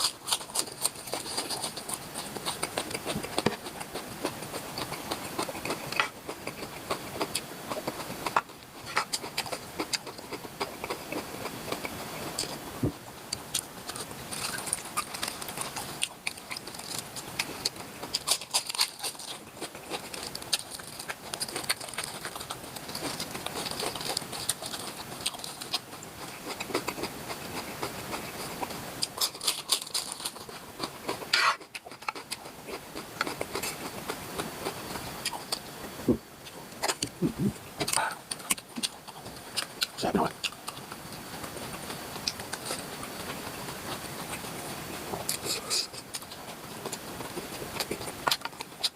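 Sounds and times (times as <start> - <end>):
person chewing and smacking: 0.0 - 36.2, 36.8 - 48.9.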